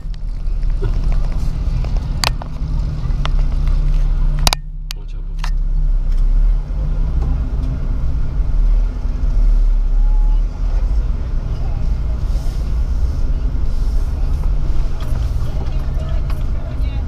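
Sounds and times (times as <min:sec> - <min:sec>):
car engine running at low speed: 0:00.0 - 0:17.0.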